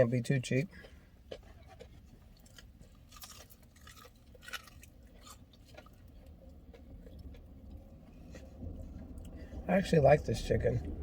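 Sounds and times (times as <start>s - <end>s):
person chewing crunchy food: 0.0s - 9.6s.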